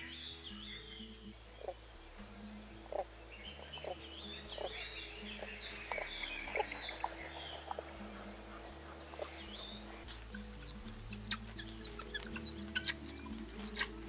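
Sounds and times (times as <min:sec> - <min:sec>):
birds chirping: 0:00.0 - 0:14.0
soft music with low drone: 0:00.0 - 0:14.0.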